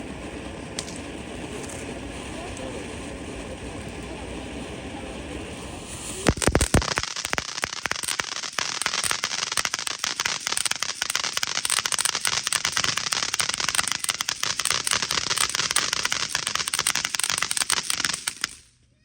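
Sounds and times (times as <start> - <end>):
fireworks crackling: 0.0 - 18.8.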